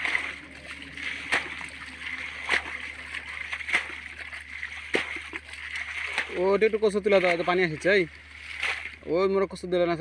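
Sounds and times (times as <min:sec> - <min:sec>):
water splashing in muddy ditch: 0:00.0 - 0:09.8.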